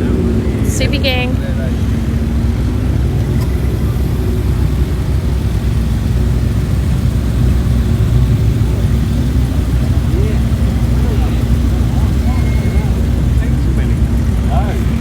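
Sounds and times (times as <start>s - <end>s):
car engines running: 0.0s - 15.0s.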